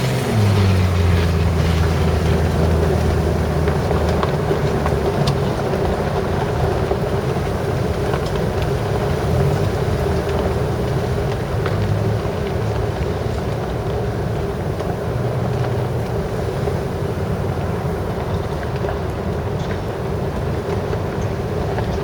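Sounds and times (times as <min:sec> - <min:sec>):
street noise: 0:00.0 - 0:22.0
vehicle engine running: 0:00.0 - 0:22.0.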